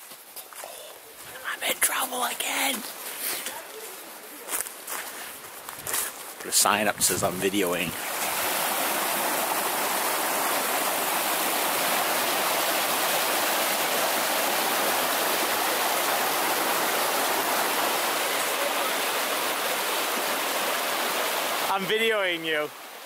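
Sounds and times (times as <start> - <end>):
stream rushing over stones: 1.3 - 4.9, 6.3 - 23.0.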